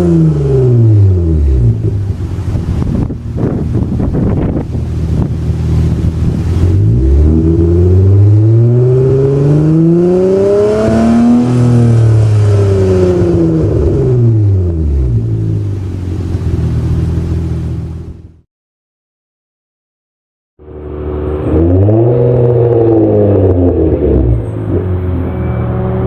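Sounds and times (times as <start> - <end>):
car engine idling and revving: 0.0 - 18.4, 20.6 - 26.0.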